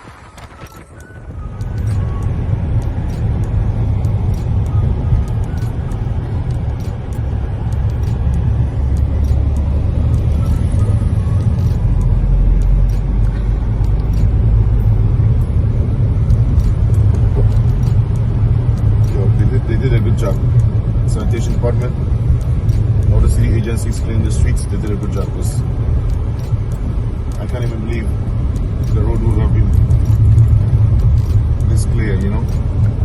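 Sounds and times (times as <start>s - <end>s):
car cabin rumble: 0.0s - 33.0s
faint clicks: 0.4s - 33.0s.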